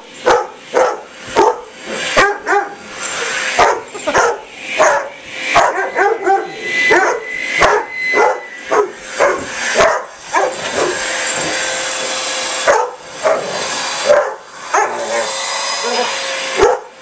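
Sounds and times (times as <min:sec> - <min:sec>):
vacuum cleaner motor whine: 0:00.0 - 0:17.0
dogs barking: 0:00.1 - 0:11.7, 0:12.5 - 0:17.0.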